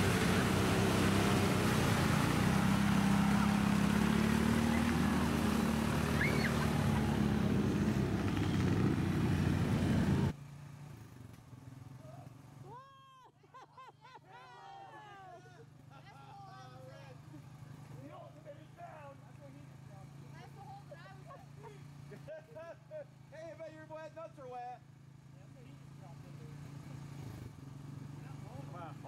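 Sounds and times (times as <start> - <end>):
quad bike engine running: 0.0 - 12.8, 15.6 - 29.0.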